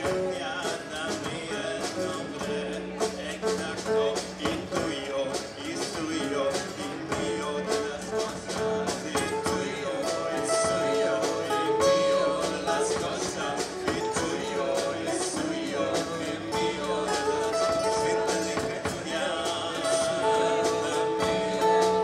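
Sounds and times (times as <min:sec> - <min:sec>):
acoustic guitars strumming: 0:00.0 - 0:22.0
drums: 0:00.0 - 0:22.0.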